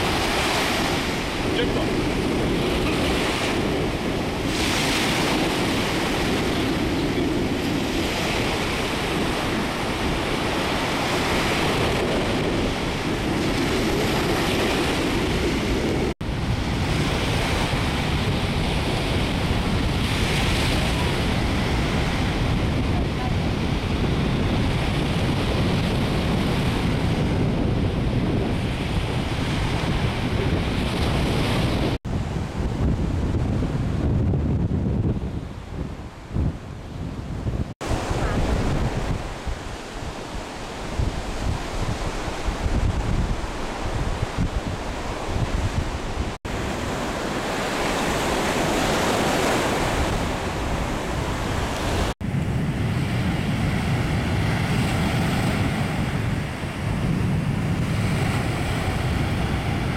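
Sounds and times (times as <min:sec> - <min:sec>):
surf washing onto beach: 0:00.0 - 0:34.2, 0:34.8 - 0:59.9
wind buffeting microphone: 0:00.0 - 0:59.9.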